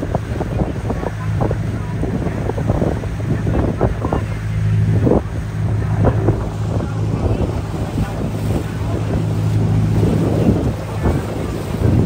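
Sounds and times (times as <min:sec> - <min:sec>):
boat engine droning: 0:00.0 - 0:12.0
water splashing against hull: 0:00.0 - 0:12.0
wind buffeting microphone: 0:00.0 - 0:12.0.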